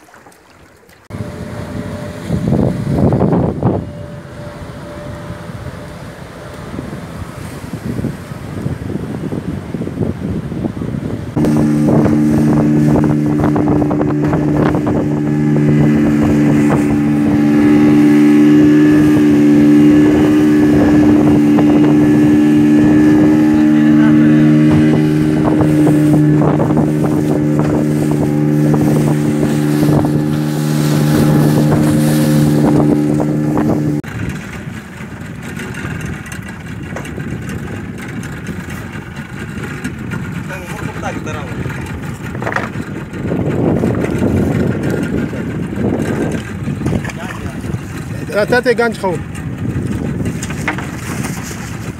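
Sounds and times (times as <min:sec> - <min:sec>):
outboard motor running: 0:00.0 - 0:51.9
sea water noise: 0:00.0 - 0:51.9
wind: 0:00.0 - 0:51.9.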